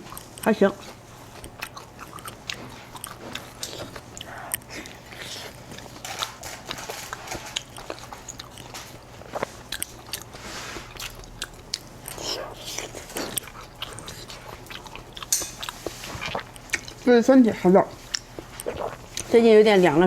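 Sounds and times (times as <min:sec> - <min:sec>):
close chewing and biting: 0:00.0 - 0:20.0
faint steady hum: 0:00.0 - 0:20.0.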